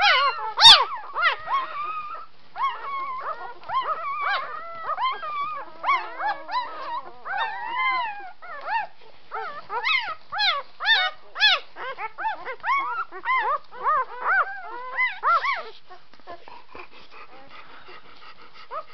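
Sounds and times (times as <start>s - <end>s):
puppies squealing and whining: 0.0s - 18.9s.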